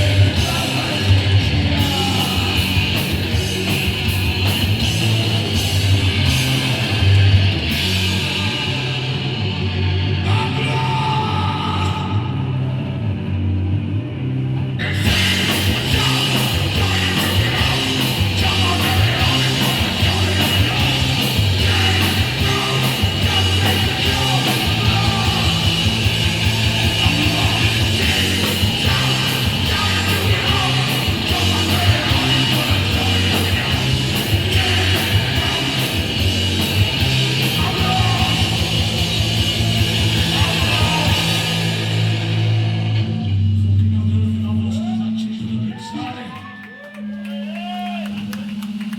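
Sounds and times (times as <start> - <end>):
punk band playing live: 0.0 - 44.2.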